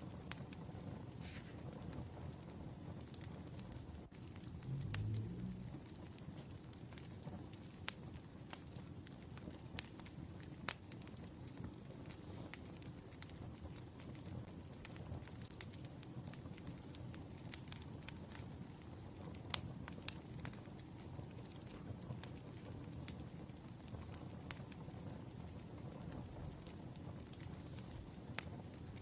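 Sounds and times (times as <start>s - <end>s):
fire rumbling: 0.0s - 29.0s
wood fire pops and snaps: 0.0s - 29.0s.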